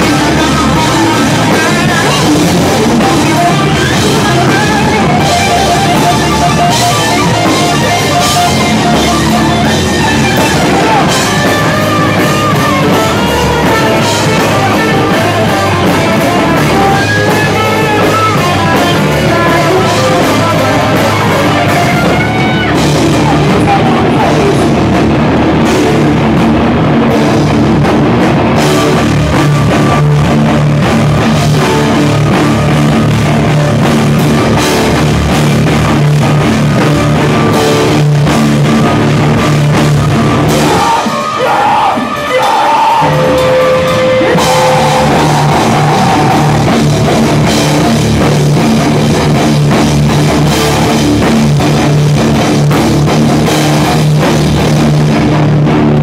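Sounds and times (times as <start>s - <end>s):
hardcore band playing: 0.0s - 56.0s.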